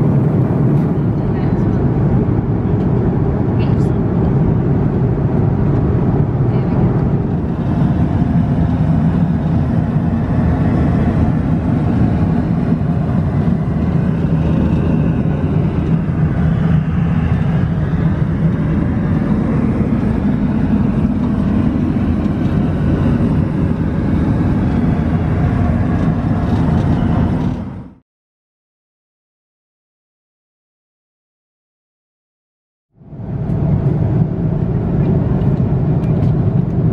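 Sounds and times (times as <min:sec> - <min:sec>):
airplane cabin engine drone: 0:00.0 - 0:28.0, 0:33.0 - 0:36.9.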